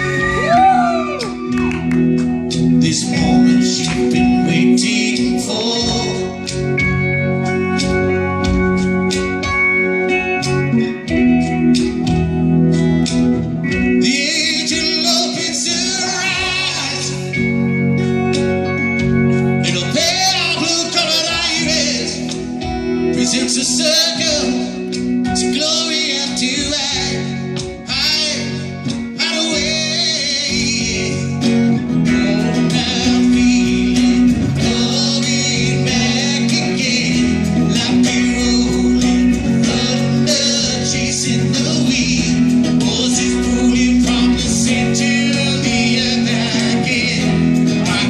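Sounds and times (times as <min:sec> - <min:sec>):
man singing: 0:00.0 - 0:07.0, 0:10.2 - 0:12.1, 0:13.7 - 0:17.8, 0:19.4 - 0:48.0
electric guitars playing chords: 0:00.0 - 0:48.0.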